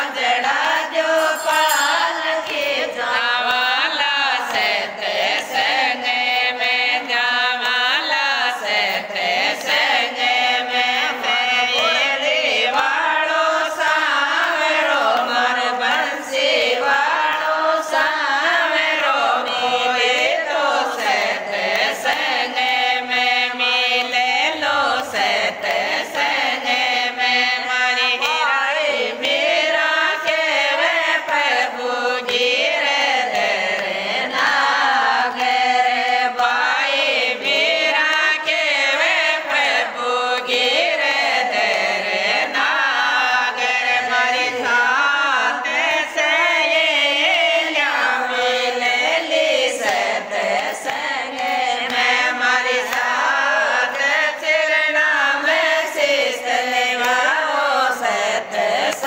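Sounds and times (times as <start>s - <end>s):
hand claps: 0.0s - 59.0s
women singing devotional song: 0.0s - 59.0s.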